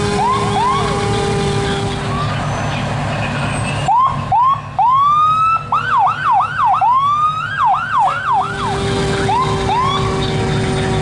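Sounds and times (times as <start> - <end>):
fire engine siren whooping: 0.0 - 2.8, 3.5 - 11.0
fire trucks rumbling: 0.0 - 11.0.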